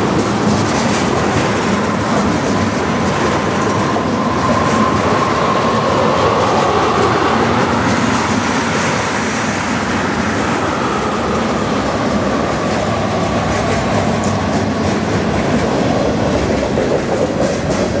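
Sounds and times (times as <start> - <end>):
steel wheels rumbling on rails: 0.0 - 18.0
wheels clickety-clack over track: 0.0 - 18.0.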